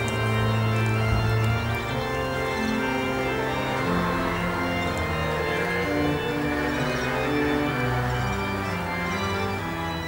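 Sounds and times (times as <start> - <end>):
church organ chords: 0.0 - 10.0.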